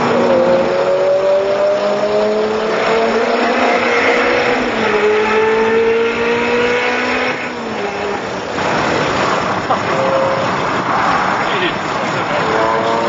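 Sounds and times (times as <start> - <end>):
road and wind noise: 0.0 - 13.0
sports car engines accelerating: 0.0 - 13.0.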